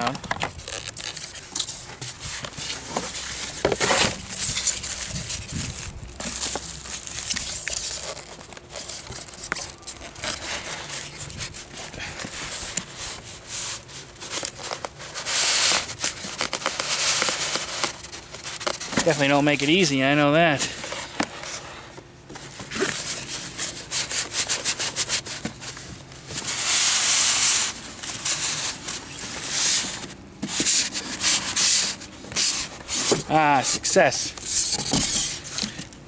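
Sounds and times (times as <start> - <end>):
box scraping: 0.0 - 19.6, 20.5 - 35.9
cardboard and plastic rustling: 0.0 - 36.0.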